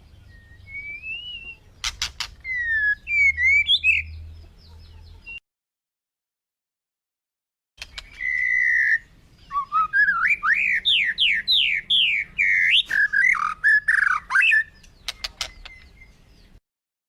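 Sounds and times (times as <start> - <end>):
bird singing: 0.0 - 5.4, 7.8 - 16.6.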